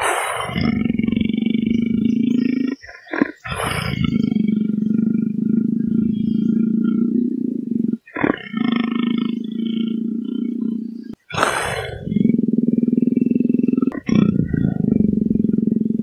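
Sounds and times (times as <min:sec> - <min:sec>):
leopard growling: 0:00.0 - 0:16.0.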